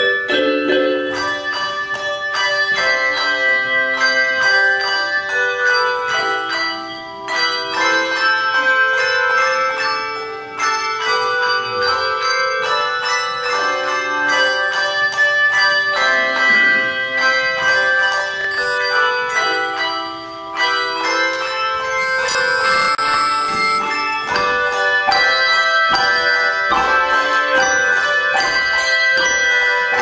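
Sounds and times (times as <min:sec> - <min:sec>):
handchime choir playing hymn: 0:00.0 - 0:30.0.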